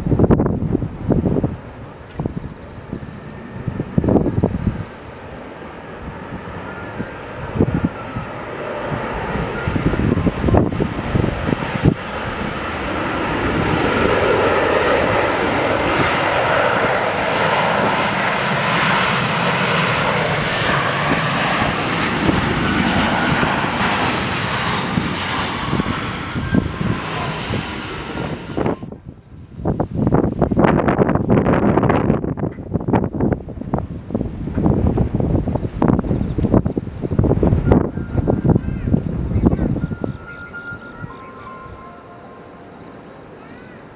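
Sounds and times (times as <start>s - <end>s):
wind buffeting microphone: 0.0s - 42.0s
jet engines roaring: 0.0s - 43.9s.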